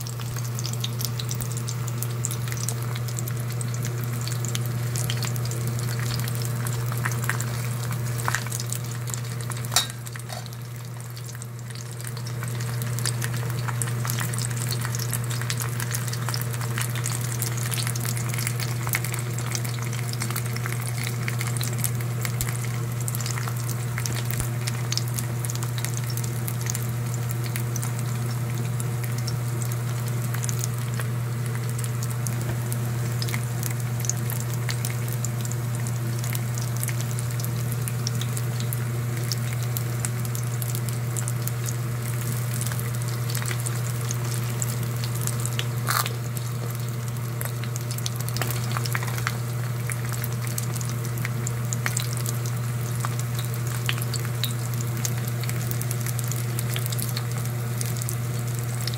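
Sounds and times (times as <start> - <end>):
constant low hum: 0.0 - 58.9
pork frying in oil: 0.0 - 58.9.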